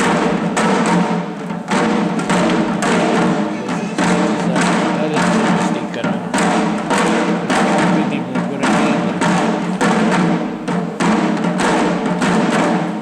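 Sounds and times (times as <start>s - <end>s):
drums beaten in steady beat: 0.0s - 13.0s.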